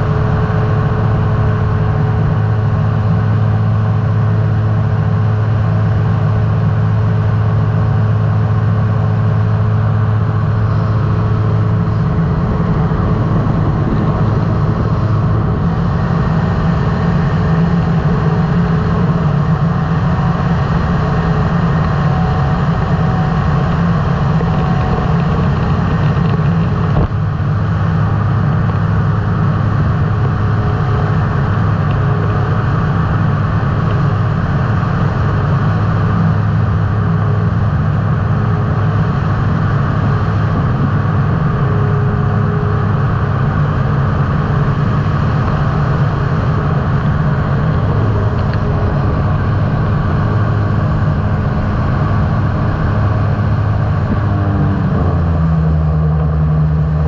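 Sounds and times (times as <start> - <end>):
aircraft engine drone: 0.0 - 57.0
wind rushing over microphone: 0.0 - 57.0.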